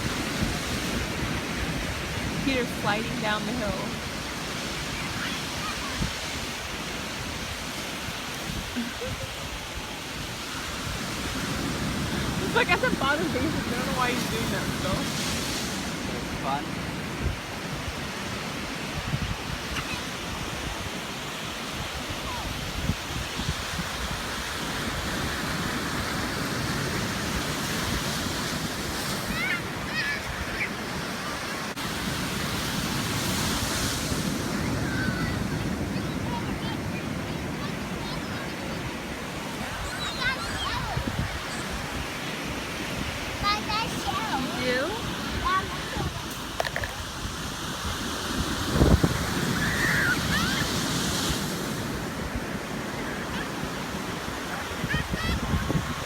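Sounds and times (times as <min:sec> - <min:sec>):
ocean surf rushing: 0:00.0 - 0:56.0
wind buffeting microphone: 0:00.0 - 0:56.0.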